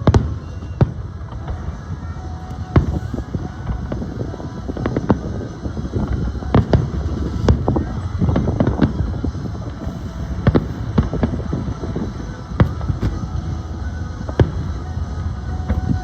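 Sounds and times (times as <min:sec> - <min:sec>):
fireworks bangs: 0:00.0 - 0:16.0
low rumble: 0:00.0 - 0:16.0.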